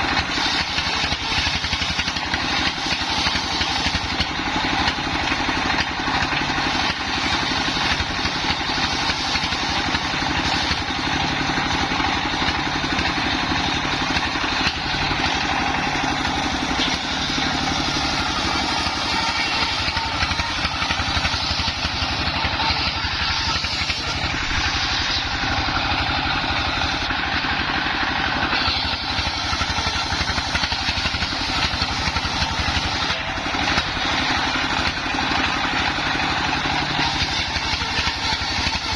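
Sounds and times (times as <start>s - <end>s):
circular saw ripping wood: 0.0s - 38.9s.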